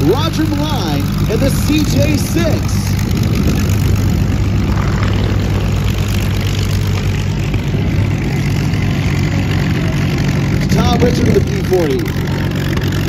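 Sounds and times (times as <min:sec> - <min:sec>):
propeller engine drone: 0:00.0 - 0:13.0.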